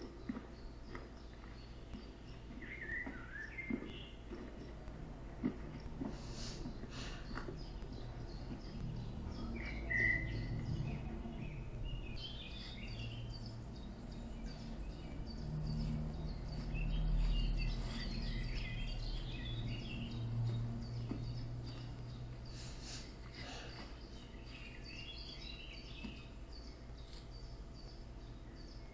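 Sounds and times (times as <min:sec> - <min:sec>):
small birds chirping: 0:00.0 - 0:28.9
steady low hum: 0:00.0 - 0:28.9.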